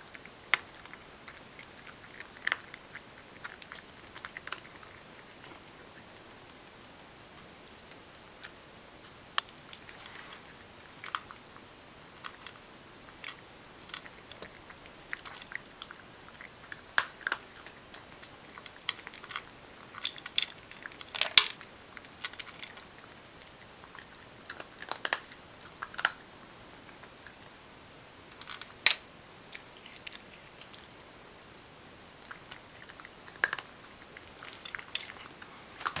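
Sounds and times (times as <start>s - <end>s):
cat crunching dry kibble: 0.0s - 6.8s, 7.4s - 27.5s, 32.2s - 36.0s.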